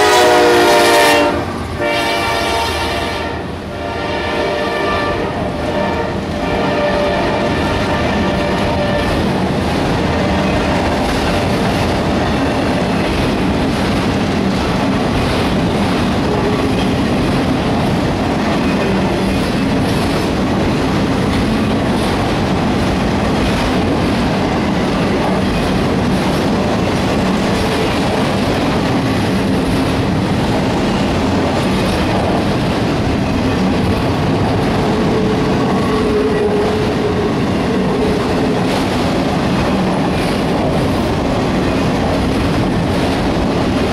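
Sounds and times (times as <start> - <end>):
freight cars rumbling on rails: 0.0 - 43.9.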